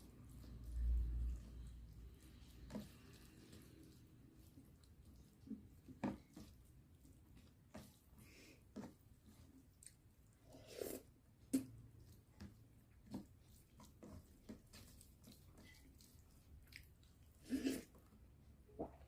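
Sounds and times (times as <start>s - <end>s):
person chewing wetly: 0.2s - 8.1s, 8.8s - 18.1s.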